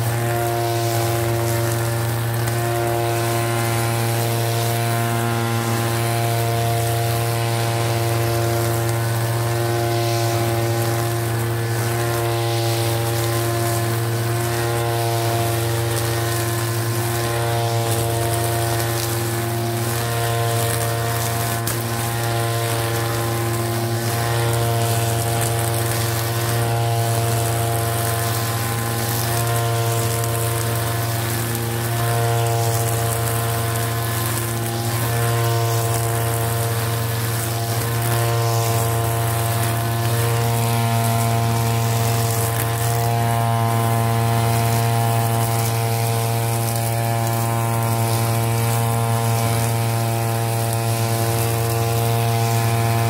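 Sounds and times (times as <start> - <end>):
brush cutter engine running: 0.0 - 53.0.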